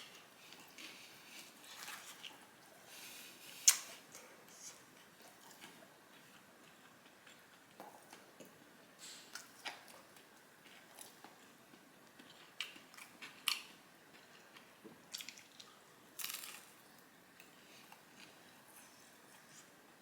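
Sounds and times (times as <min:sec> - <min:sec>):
chewing crispy food: 0:00.0 - 0:19.7.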